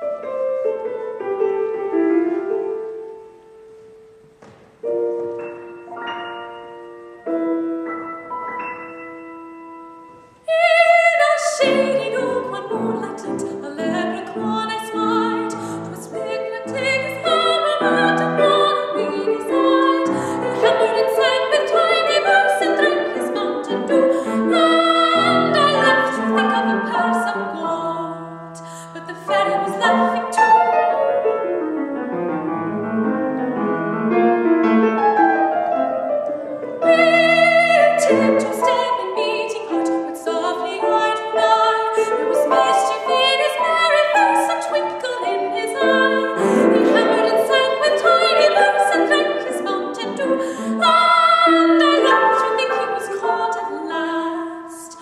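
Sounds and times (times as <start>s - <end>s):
soprano singing: 0.0s - 32.4s, 33.0s - 55.0s
grand piano accompaniment: 0.0s - 55.0s.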